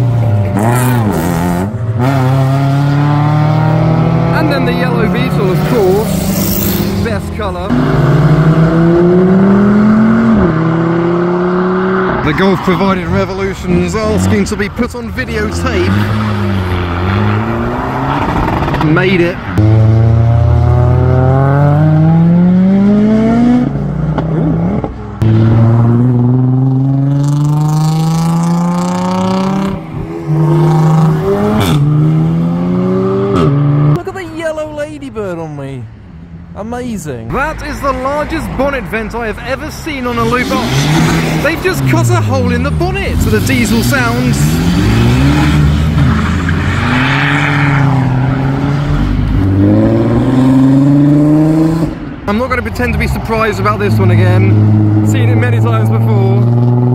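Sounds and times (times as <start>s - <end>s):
car engines accelerating hard: 0.0s - 34.1s, 35.6s - 56.9s.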